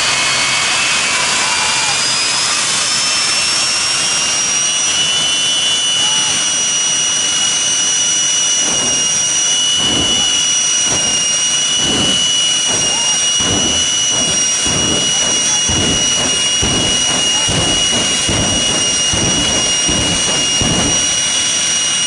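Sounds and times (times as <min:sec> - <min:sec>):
jet turbine engines roaring: 0:00.0 - 0:22.0
second steady whine: 0:00.0 - 0:22.0.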